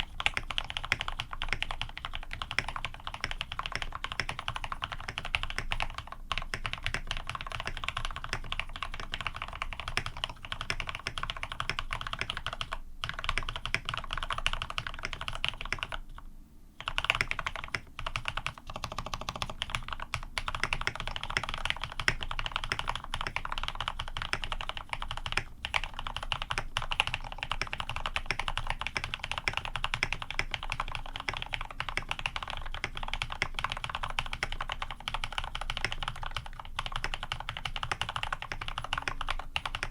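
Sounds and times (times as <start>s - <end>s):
fast mechanical keyboard typing: 0.0s - 16.2s, 16.8s - 39.9s.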